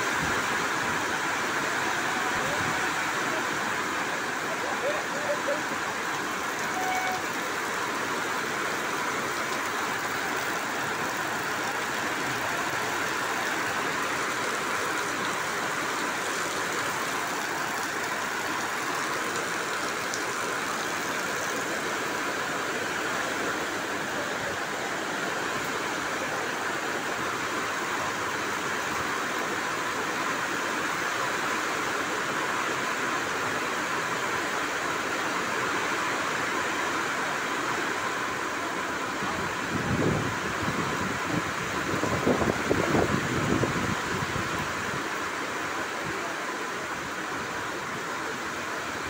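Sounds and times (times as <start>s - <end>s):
rain splashing on platform: 0.0s - 49.0s
water pouring off roof: 0.0s - 49.0s.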